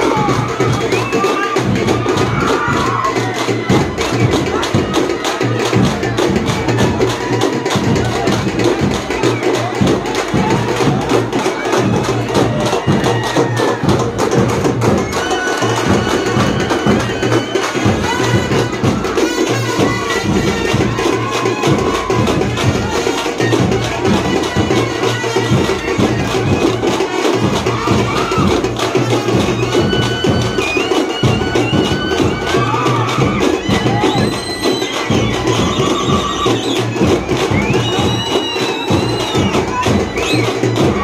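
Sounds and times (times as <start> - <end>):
fast dense drumming: 0.0 - 41.0
shrill wind instrument melody: 0.0 - 41.0.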